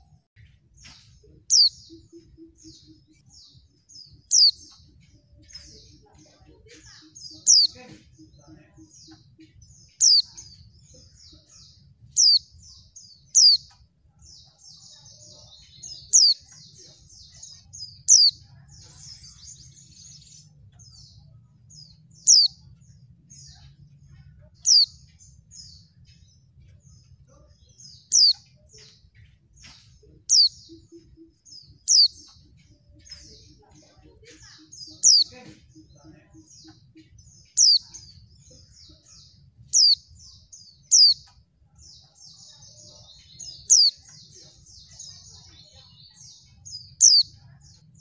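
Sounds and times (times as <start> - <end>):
soft bird twittering: 0.0 - 48.0.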